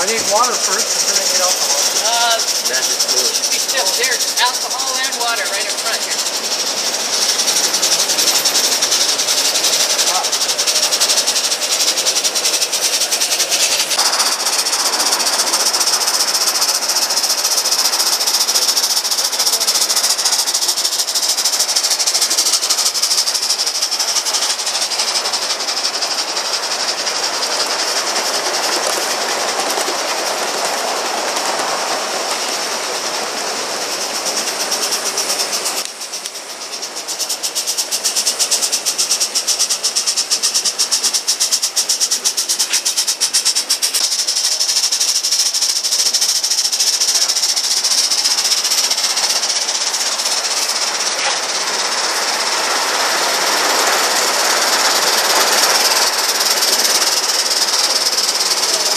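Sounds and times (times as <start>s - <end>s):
steam hissing: 0.0s - 58.9s
steam locomotive exhaust chuffs: 0.0s - 58.9s.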